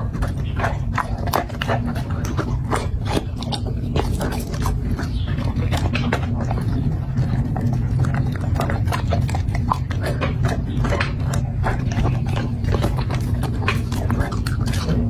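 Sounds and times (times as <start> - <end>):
dog chewing and crunching food: 0.0 - 15.0
steady low hum: 0.0 - 15.0.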